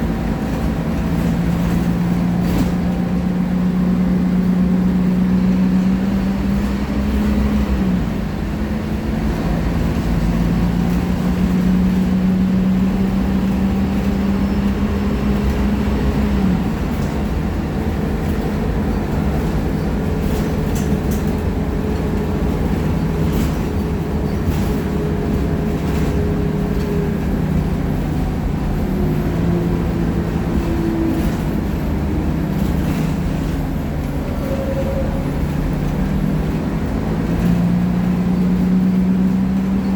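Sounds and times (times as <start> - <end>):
bus engine accelerating: 0.0 - 39.9.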